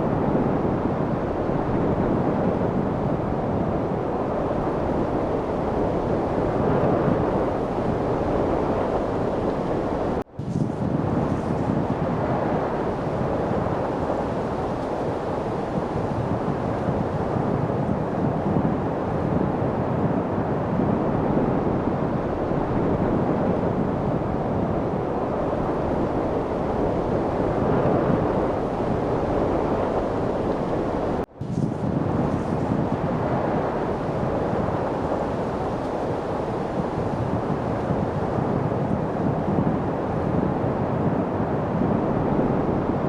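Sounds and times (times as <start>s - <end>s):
steady rushing wind: 0.0s - 43.0s.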